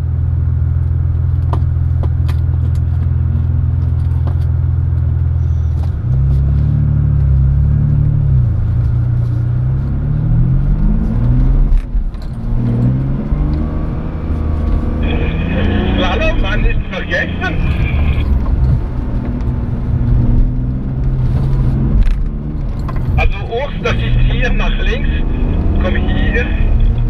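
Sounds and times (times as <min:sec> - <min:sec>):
car engine revving: 0:02.2 - 0:27.0.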